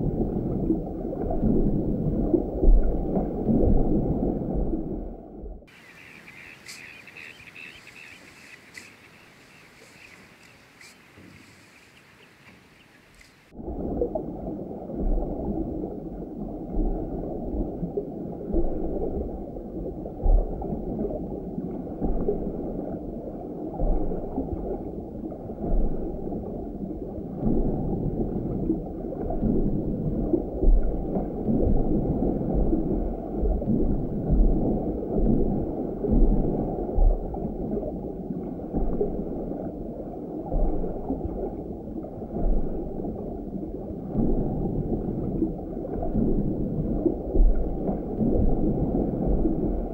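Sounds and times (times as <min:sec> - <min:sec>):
churning water underwater: 0:00.0 - 0:49.9.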